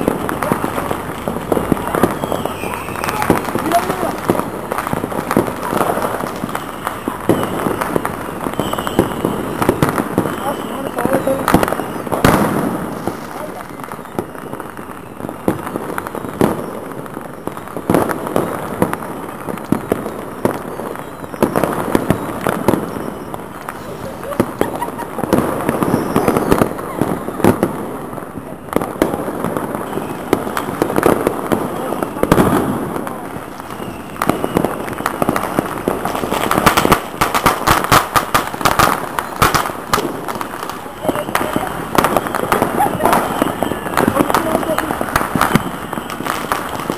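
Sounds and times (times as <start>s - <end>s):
distant fireworks bangs and crackling: 0.0s - 46.9s
sharp loud firework bangs: 0.0s - 46.9s.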